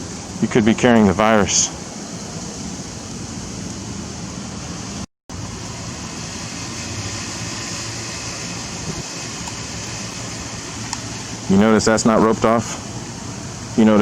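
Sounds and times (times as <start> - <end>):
broad hiss: 0.0 - 14.0.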